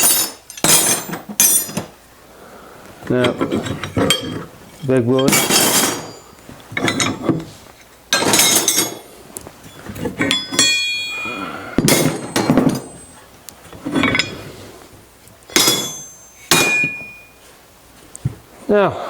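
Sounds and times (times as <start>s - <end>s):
steel spanners clanking: 0.0s - 2.0s, 3.0s - 14.7s, 15.5s - 17.4s.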